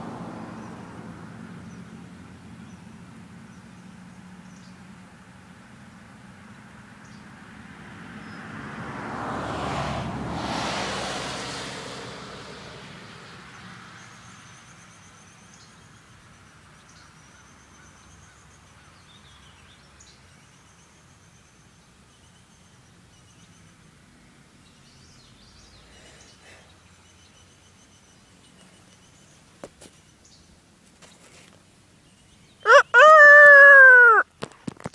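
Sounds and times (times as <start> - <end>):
passing vehicle: 0.0 - 30.9, 31.6 - 34.7.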